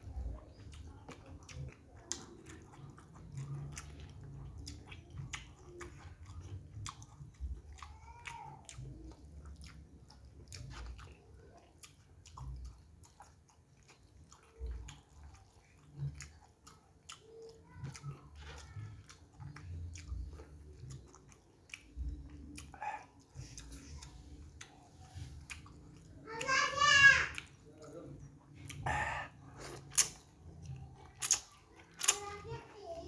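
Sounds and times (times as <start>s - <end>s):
man chewing food: 0.0s - 33.0s.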